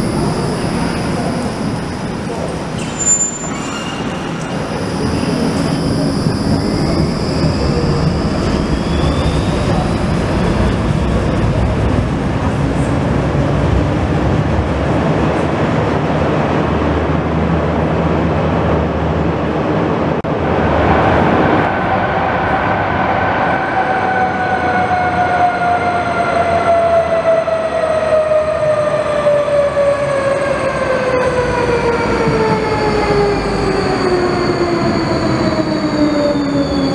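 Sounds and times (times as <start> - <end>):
tram electric traction whine: 0.0 - 36.9
tram wheels rumbling on rails: 0.0 - 36.9.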